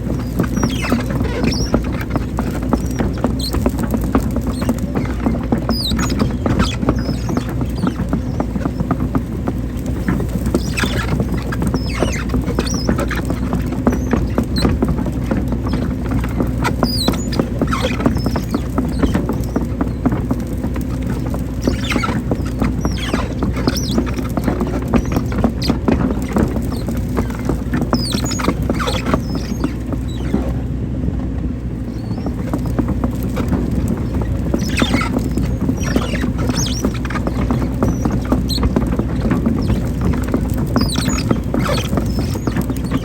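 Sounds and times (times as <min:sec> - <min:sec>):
clicking and clatter: 0:00.0 - 0:43.0
excavator engine humming: 0:00.0 - 0:43.0
high squeaks of excavator arm: 0:00.1 - 0:09.4, 0:10.0 - 0:30.6, 0:31.9 - 0:43.0.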